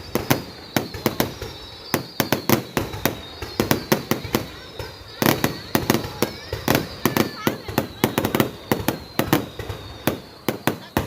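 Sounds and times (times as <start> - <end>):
faint high whistling tone: 0.0 - 11.0
fireworks bangs and pops: 0.0 - 11.0.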